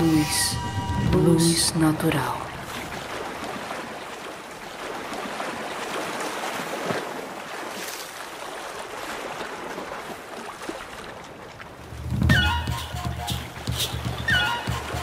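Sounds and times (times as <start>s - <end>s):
river water washing: 0.0s - 15.0s
wind: 0.0s - 15.0s.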